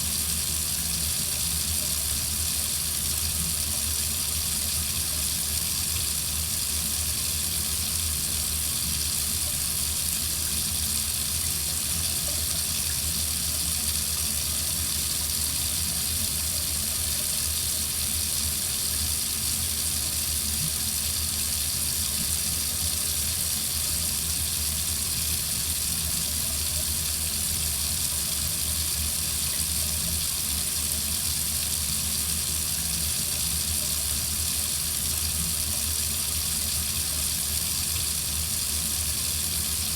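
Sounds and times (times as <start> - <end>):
water faucet running: 0.0 - 39.9.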